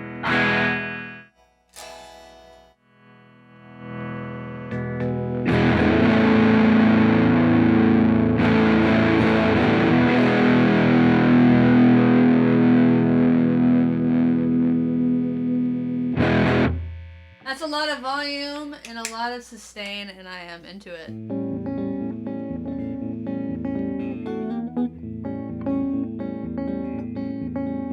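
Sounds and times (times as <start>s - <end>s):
distorted electric guitar: 0.0s - 17.5s, 21.1s - 27.9s.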